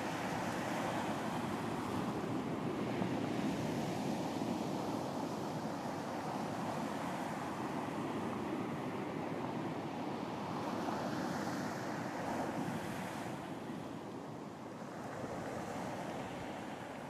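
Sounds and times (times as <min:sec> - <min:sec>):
ocean waves on a beach: 0:00.0 - 0:17.0.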